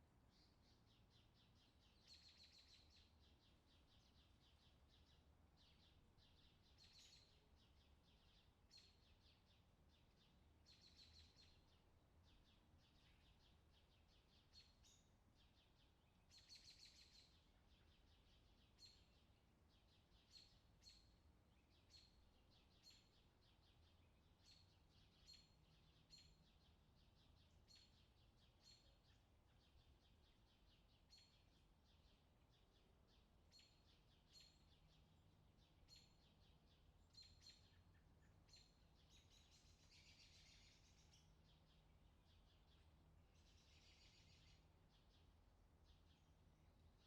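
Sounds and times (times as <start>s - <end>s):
faint bird chirping: 0.0s - 47.0s
low steady hum: 0.0s - 47.0s.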